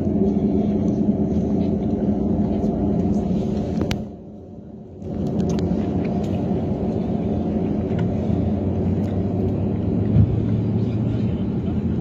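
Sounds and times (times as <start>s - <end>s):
aircraft cabin propeller drone: 0.0s - 12.0s.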